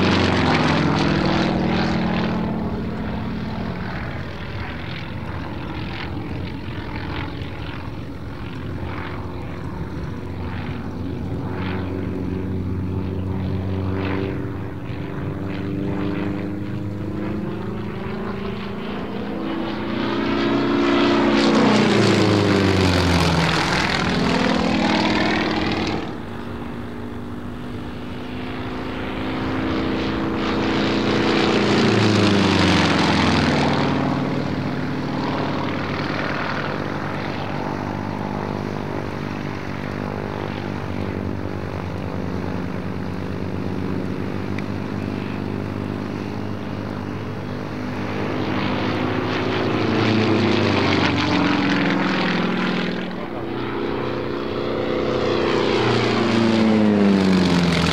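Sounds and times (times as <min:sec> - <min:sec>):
propeller plane engine passing: 0:00.0 - 0:57.9.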